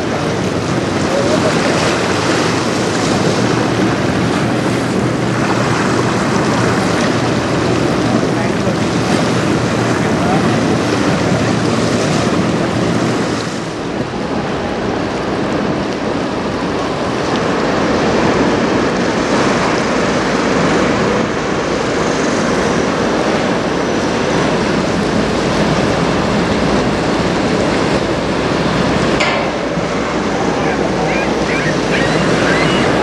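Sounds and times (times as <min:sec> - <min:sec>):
river water lapping: 0:00.0 - 0:33.0
wind on microphone: 0:00.0 - 0:33.0.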